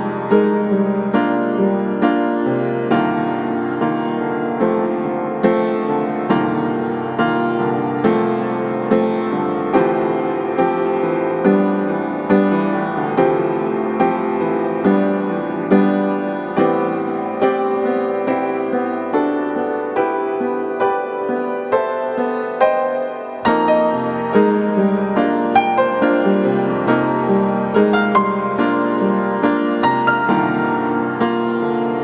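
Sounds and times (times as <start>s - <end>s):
gentle piano music: 0.0s - 32.0s.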